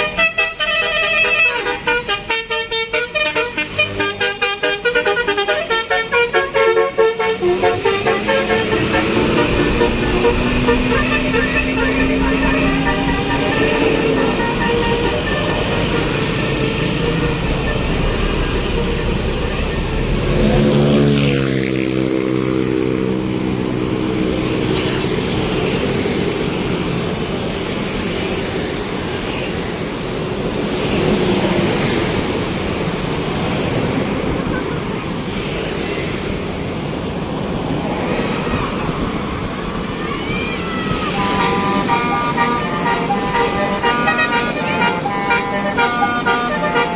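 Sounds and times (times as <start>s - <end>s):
road traffic noise: 0.0s - 46.9s
heavy vehicle engine passing: 3.0s - 46.9s.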